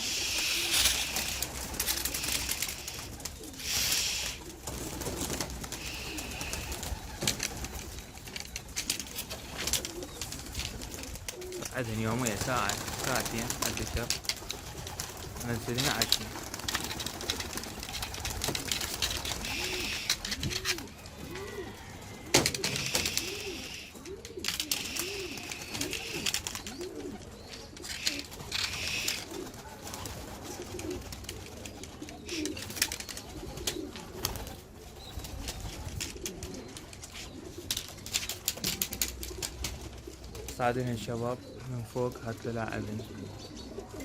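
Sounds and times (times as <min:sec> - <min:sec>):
pigeons cooing: 0:00.0 - 0:44.0
clicks and rustles: 0:00.6 - 0:03.6, 0:04.7 - 0:21.4, 0:22.3 - 0:29.5, 0:30.8 - 0:34.6, 0:35.2 - 0:40.6.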